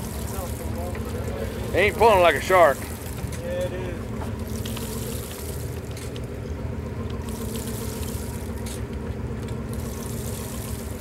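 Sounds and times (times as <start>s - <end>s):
boat engine idling: 0.0s - 11.0s
water sloshing against hull: 0.0s - 11.0s.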